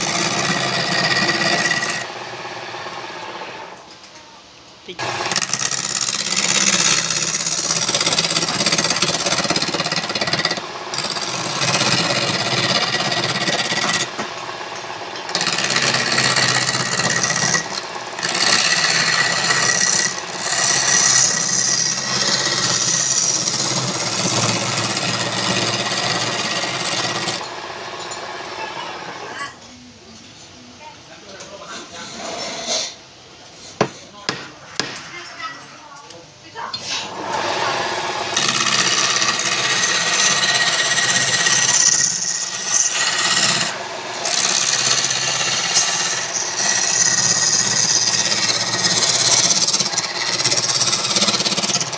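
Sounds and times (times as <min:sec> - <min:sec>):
power tool rasping wood: 0:00.0 - 0:03.8, 0:04.9 - 0:29.3, 0:37.0 - 0:51.9.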